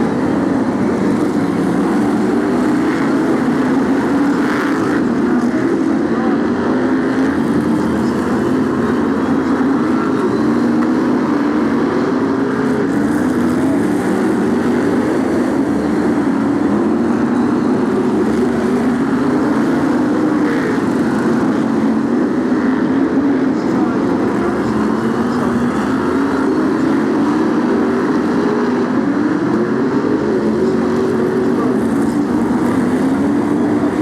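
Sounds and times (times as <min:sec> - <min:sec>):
racing car engines droning: 0:00.0 - 0:34.0.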